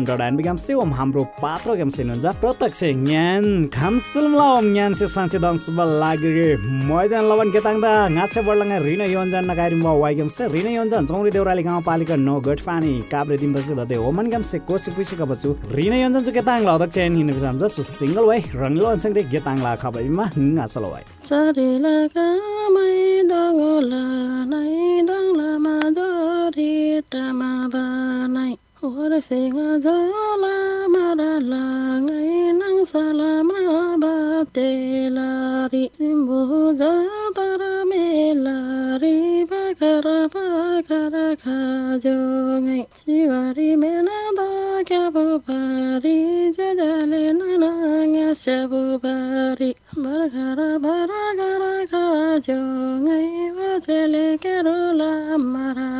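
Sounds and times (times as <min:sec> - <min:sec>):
woman singing folk melody: 0:02.3 - 0:14.6, 0:19.6 - 0:55.9.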